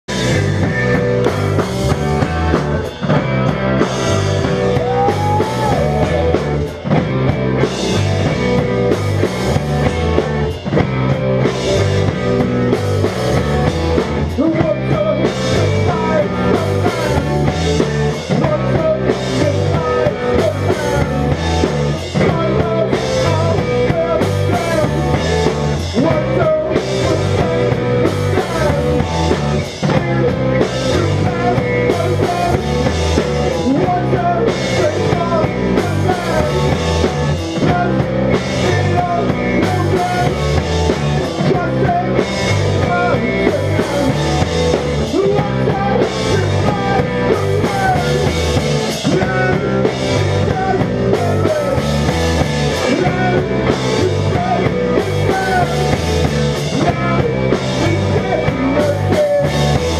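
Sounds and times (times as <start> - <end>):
electric guitars: 0.0 - 59.9
drum kit beat: 0.1 - 59.9.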